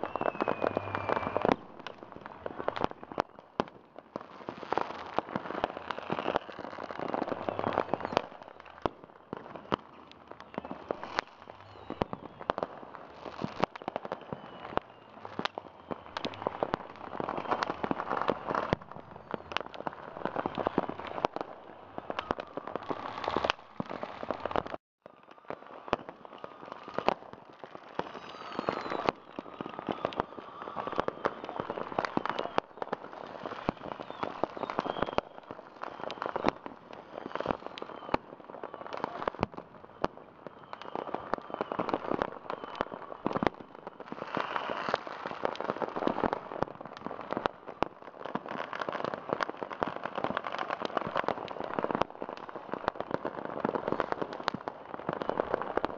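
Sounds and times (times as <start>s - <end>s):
firecrackers popping and crackling: 0.0s - 55.9s
whistling rockets: 0.0s - 55.9s.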